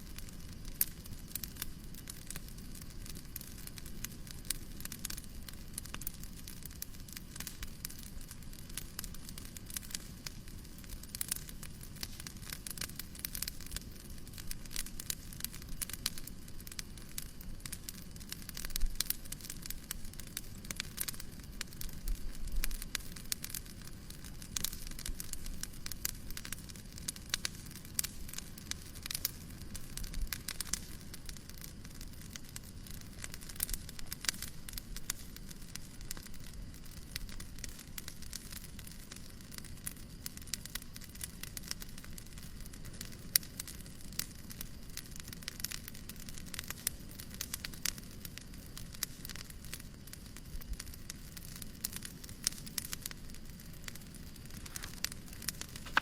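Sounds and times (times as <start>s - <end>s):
fireplace crackling: 0.0s - 56.0s
low hiss: 0.0s - 56.0s.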